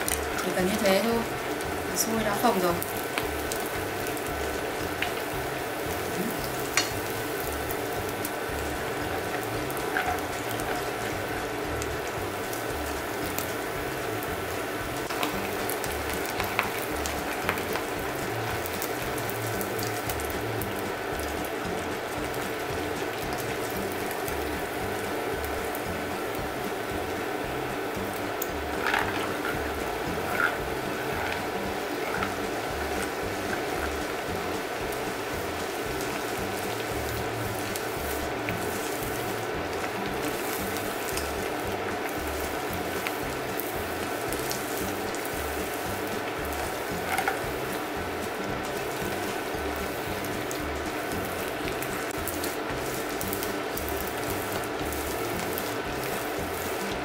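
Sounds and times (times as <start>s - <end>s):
dough deep-frying in oil: 0.0s - 57.0s.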